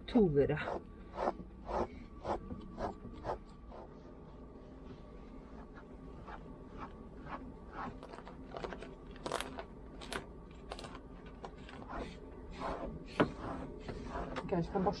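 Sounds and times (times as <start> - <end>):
brush scratching through dog fur: 0.6 - 15.0.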